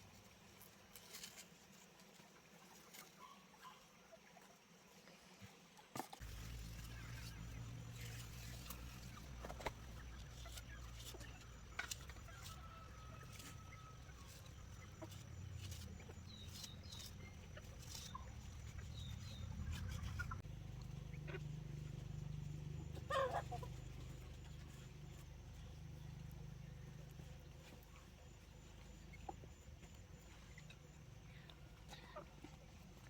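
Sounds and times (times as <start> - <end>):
faint chicken clucks: 5.9 - 33.0
steady low hum: 6.2 - 33.0.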